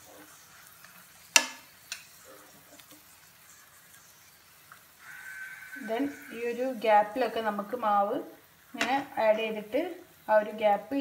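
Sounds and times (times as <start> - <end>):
faint frying sizzle: 0.0 - 11.0.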